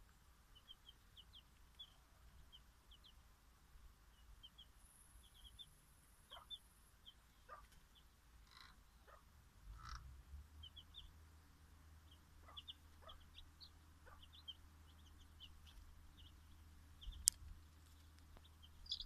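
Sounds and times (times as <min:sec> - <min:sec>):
chicks peeping: 0:00.5 - 0:03.2, 0:04.1 - 0:09.2, 0:10.6 - 0:11.2, 0:12.0 - 0:19.0.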